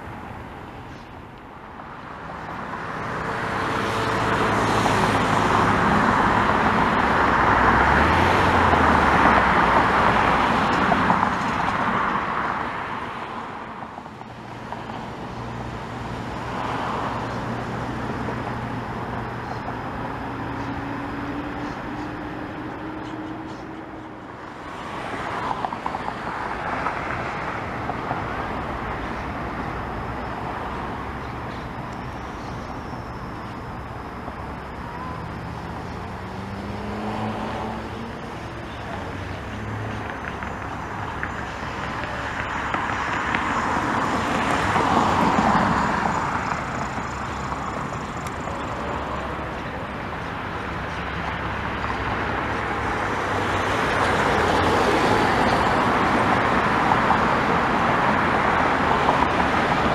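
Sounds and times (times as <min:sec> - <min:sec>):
background traffic noise: 0:00.0 - 0:59.9
broad rush of noise: 0:00.0 - 0:59.9.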